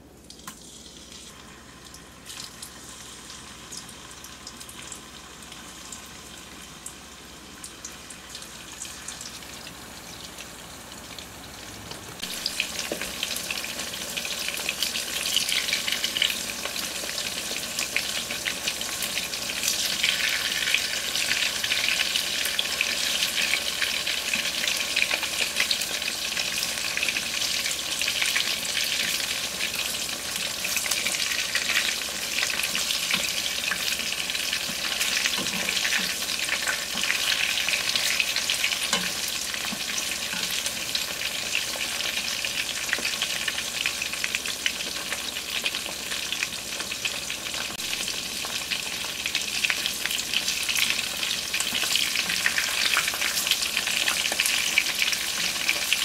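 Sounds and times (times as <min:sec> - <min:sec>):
tofu sizzling in hot oil: 0:00.6 - 0:11.3, 0:12.2 - 0:56.0.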